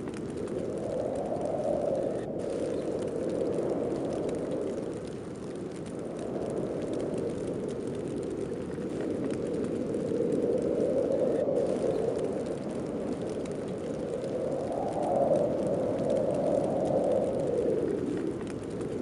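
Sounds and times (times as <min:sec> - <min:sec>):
snowstorm wind blowing: 0:00.0 - 0:19.0.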